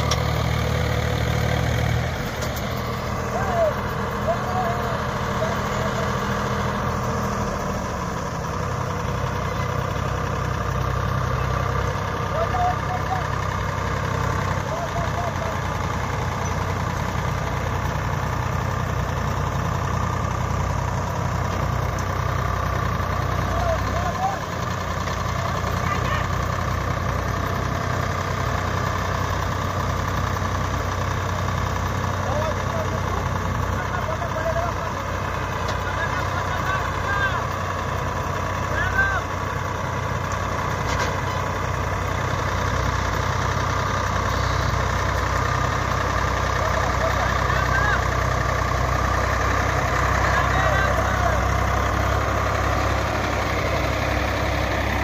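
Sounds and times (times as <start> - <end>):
tractor diesel engines running: 0.0 - 55.0.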